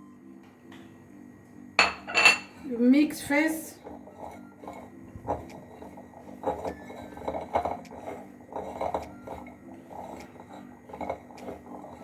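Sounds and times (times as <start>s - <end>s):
utensil clinking and scraping bowl: 1.8s - 12.0s.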